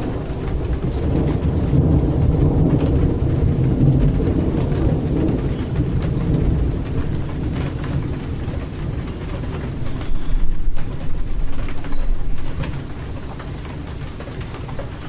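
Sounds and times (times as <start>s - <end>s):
deep rumble of thunder: 0.0s - 15.0s
steady rain: 0.0s - 15.0s.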